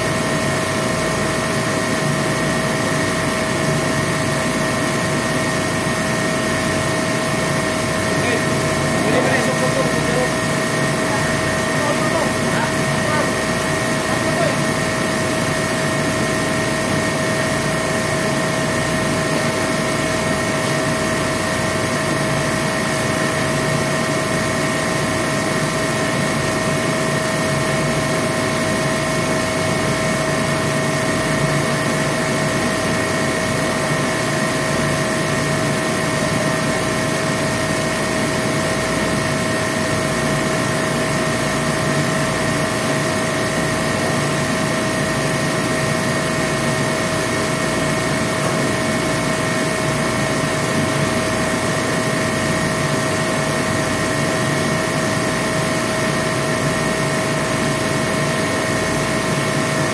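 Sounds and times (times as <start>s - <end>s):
machine running with whine: 0.0s - 59.9s.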